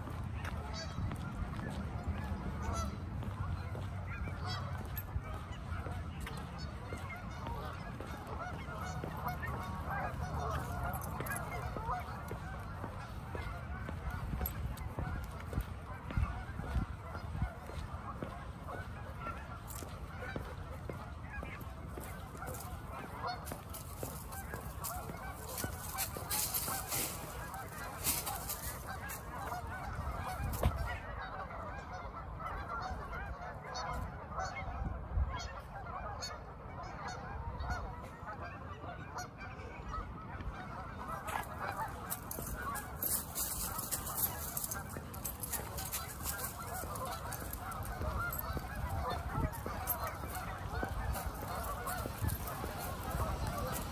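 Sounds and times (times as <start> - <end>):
geese honking: 0.0 - 53.9.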